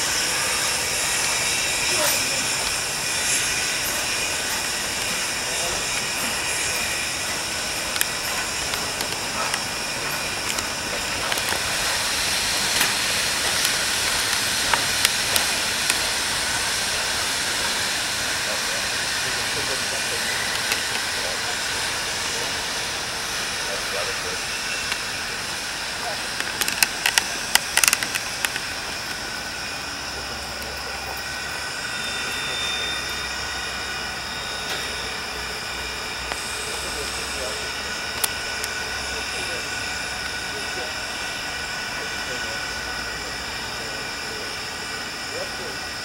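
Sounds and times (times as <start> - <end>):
steam hissing: 0.0 - 46.0.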